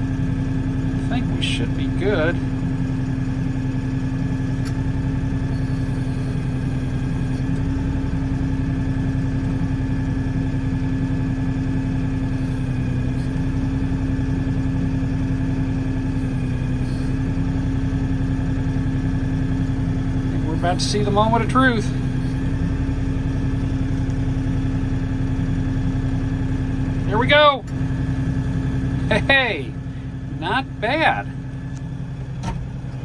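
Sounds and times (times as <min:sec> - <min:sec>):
tractor diesel engine humming: 0:00.0 - 0:33.0.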